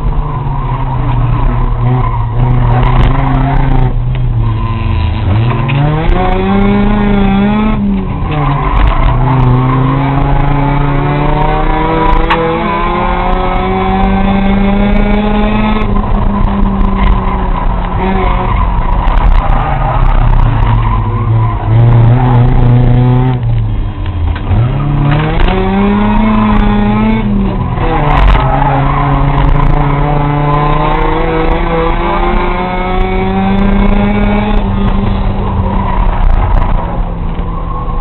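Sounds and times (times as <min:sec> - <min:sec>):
race car engine: 0:00.0 - 0:38.0.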